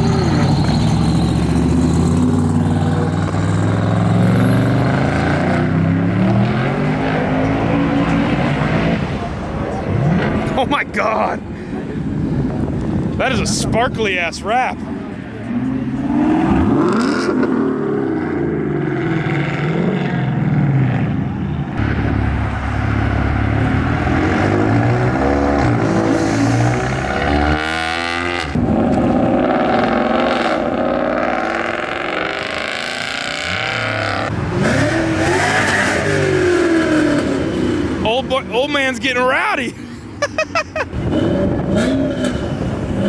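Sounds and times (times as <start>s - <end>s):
car engines revving and accelerating: 0.0s - 43.0s.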